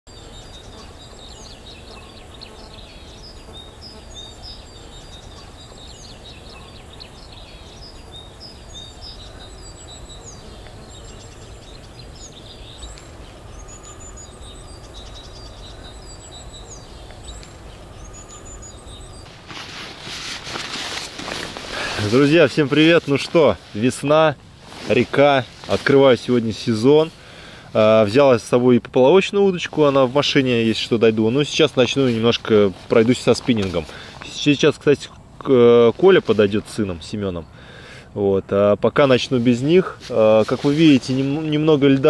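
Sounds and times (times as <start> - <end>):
small birds chirping and trilling: 0.1 - 19.8, 20.5 - 42.0.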